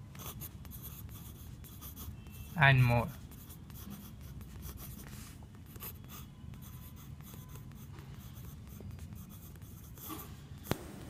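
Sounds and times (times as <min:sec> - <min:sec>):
pencil writing on paper: 0:00.1 - 0:10.7.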